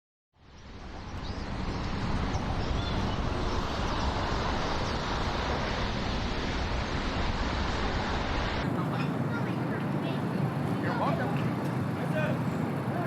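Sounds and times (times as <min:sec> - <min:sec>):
city street traffic roar: 0:00.4 - 0:13.0.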